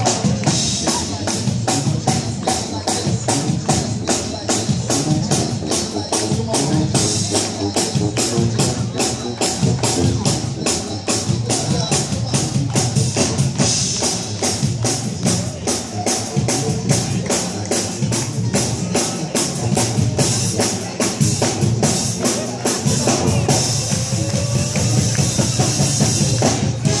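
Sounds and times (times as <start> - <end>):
crowd clapping along: 0.0 - 27.0
drums beating: 0.0 - 27.0
live brass band playing: 0.0 - 27.0.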